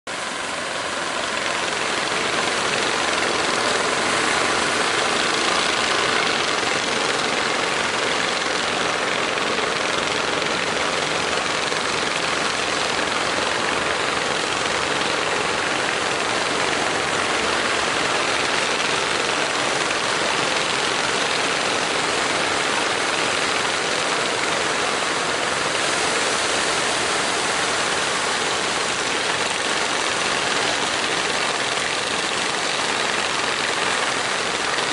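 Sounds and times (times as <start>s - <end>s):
boat engines idling: 0.1s - 34.9s.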